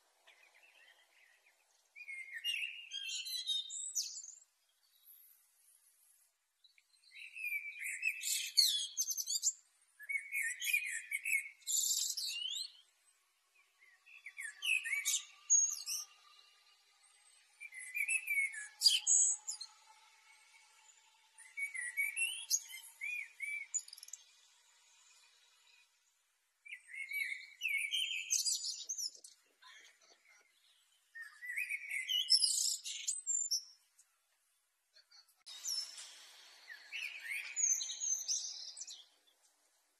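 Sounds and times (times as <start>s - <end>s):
blackbird singing: 0.2s - 5.1s, 6.6s - 13.0s, 13.6s - 20.8s, 21.4s - 24.4s, 26.6s - 33.9s, 35.1s - 36.0s, 36.6s - 39.4s.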